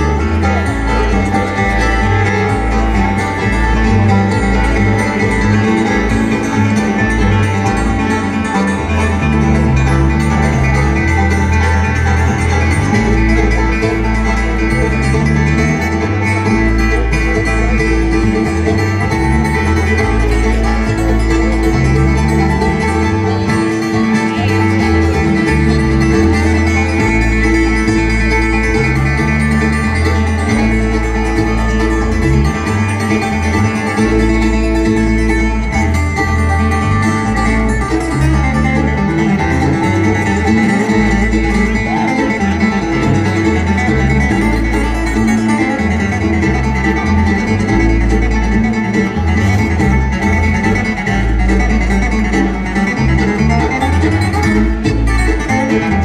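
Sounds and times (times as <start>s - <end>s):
banjo picking: 0.0s - 56.0s
live bluegrass band: 0.0s - 56.0s.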